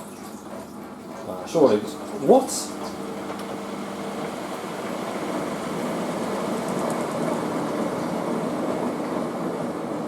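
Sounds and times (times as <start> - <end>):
washing machine drum spinning: 0.0 - 10.0.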